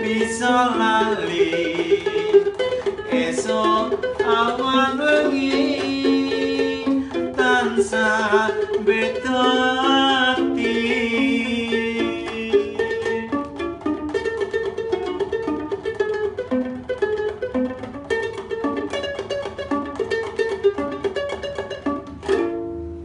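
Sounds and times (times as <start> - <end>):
plucked string instrument runs: 0.0 - 23.0.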